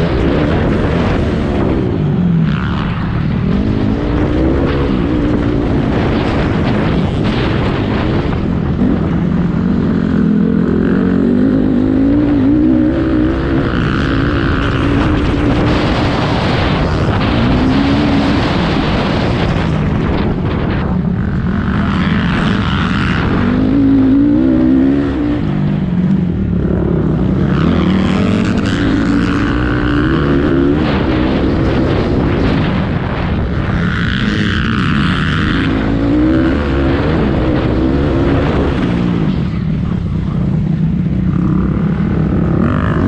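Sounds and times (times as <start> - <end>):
racing motorcycle engines revving: 0.0 - 43.0.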